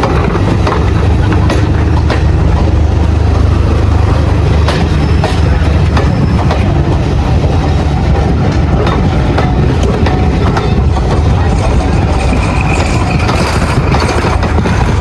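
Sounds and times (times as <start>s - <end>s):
low engine rumble: 0.0s - 15.0s
train wheels clicking over rail joints: 0.0s - 15.0s.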